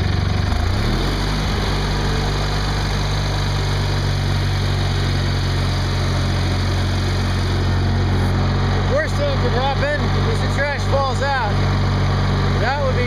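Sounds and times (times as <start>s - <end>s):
small tractor engine speeding up: 0.0s - 13.0s.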